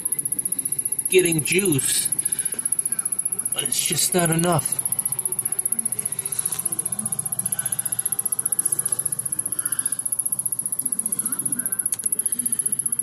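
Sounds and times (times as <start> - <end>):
television circuitry ticking rapidly: 0.0 - 13.0.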